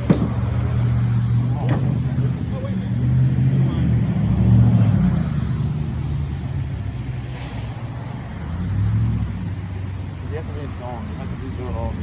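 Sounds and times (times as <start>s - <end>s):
road traffic engine hum: 0.0s - 12.0s.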